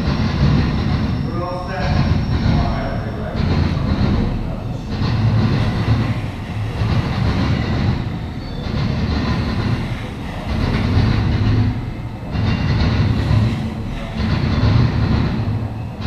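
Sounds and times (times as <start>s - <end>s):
freight train cars rumbling: 0.0s - 16.0s.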